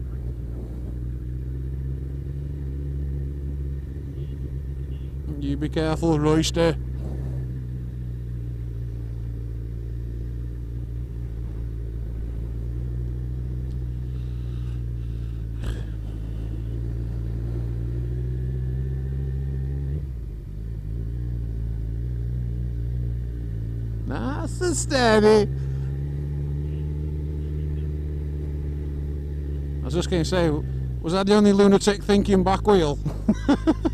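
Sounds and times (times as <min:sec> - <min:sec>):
motorcycle engine cruising: 0:00.0 - 0:33.9.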